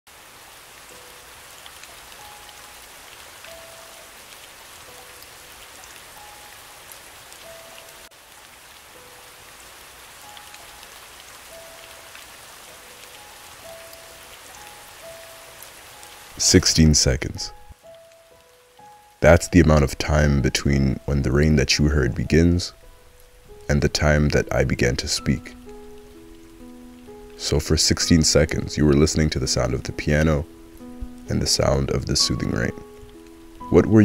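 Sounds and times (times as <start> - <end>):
steady rain falling: 0.1 - 34.0.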